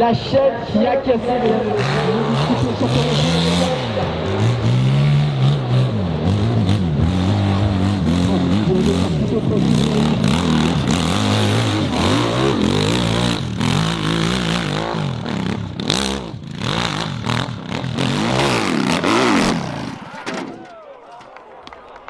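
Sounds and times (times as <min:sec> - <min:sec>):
motorcycle engines revving: 0:00.0 - 0:20.7.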